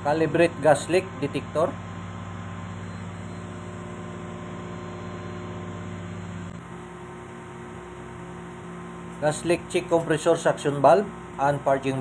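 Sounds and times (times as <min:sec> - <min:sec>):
air-conditioning compressor hum: 0:00.0 - 0:12.0.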